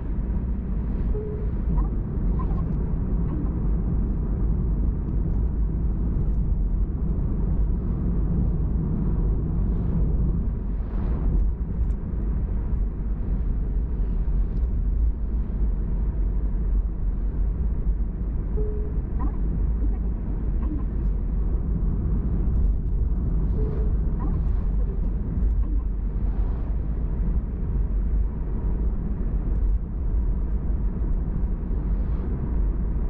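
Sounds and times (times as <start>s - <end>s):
car cabin road rumble: 0.0s - 33.0s.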